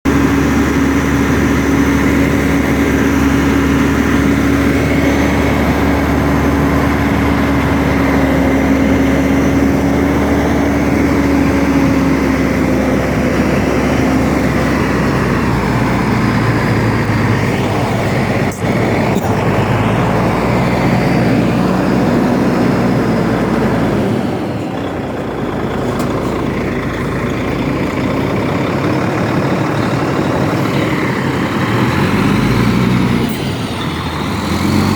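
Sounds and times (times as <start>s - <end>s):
road and mechanical noise: 0.0s - 34.9s
truck engine drone: 0.0s - 34.9s.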